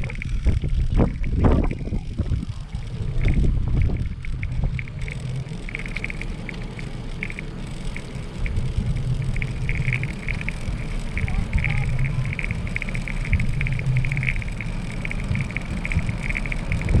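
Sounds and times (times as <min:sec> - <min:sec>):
wind buffeting microphone: 0:00.0 - 0:05.8, 0:07.7 - 0:17.0
tyres rolling on pebbly path: 0:00.0 - 0:17.0.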